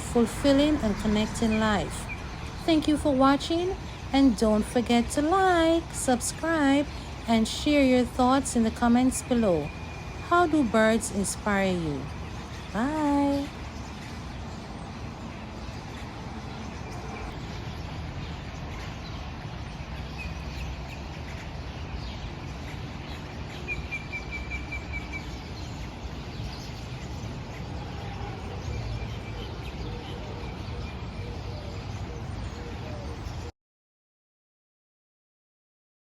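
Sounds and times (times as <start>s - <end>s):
songbirds calling: 0.0s - 33.5s.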